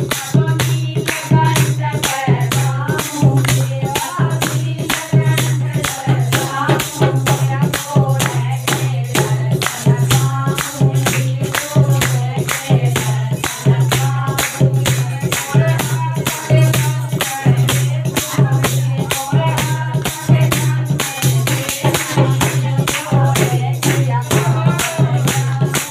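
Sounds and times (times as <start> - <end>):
hand clapping: 0.0 - 25.9
hand drum beat: 0.0 - 25.9
women singing: 0.0 - 25.9.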